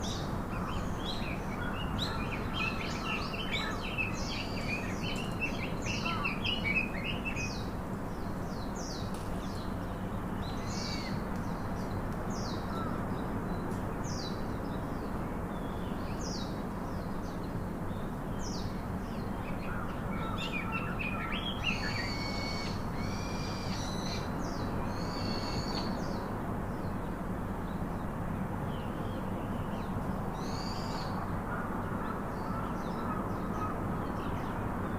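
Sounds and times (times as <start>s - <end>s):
low background noise: 0.0s - 34.9s.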